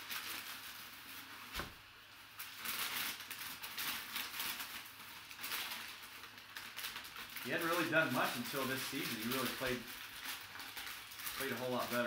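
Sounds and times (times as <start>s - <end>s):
packing paper crinkling: 0.0s - 12.0s.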